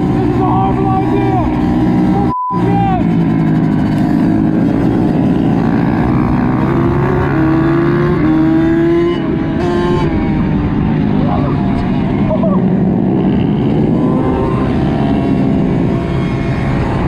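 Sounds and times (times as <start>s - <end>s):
other mini bike engines: 0.0s - 17.0s
two-stroke dirt bike engine racing: 0.0s - 17.0s.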